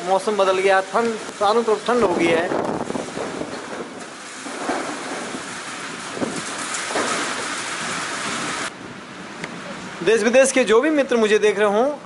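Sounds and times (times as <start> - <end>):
heavy rain on concrete roof: 0.0 - 12.0.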